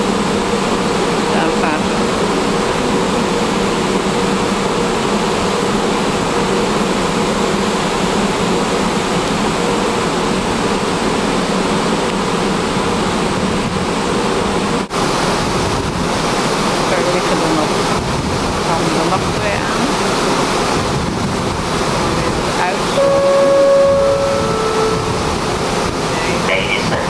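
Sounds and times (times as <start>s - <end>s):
faint engine hum: 0.0s - 27.0s
wind and water rushing: 0.0s - 27.0s.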